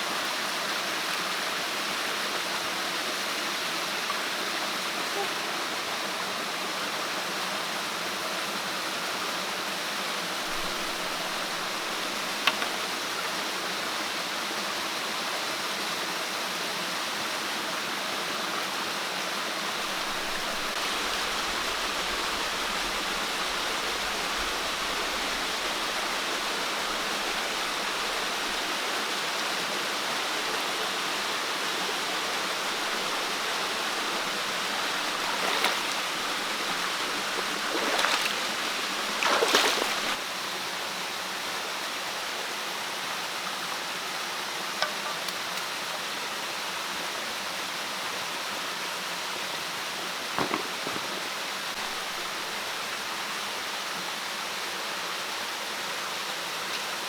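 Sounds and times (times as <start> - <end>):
flowing water rushing: 0.0 - 47.9, 49.8 - 57.0.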